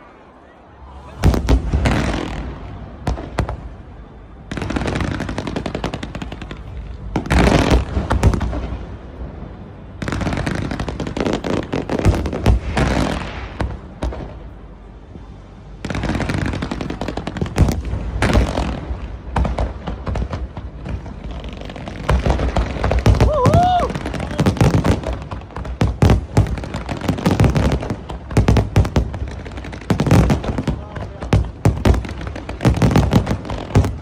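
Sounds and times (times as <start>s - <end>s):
fireworks bangs and crackles: 0.9s - 34.0s.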